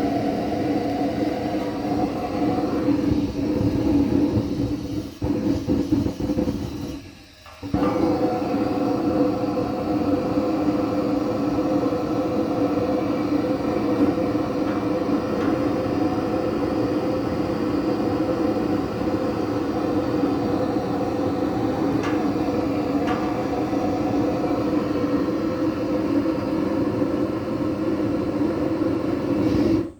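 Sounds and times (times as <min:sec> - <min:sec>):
low humming drone: 0:00.0 - 0:29.9.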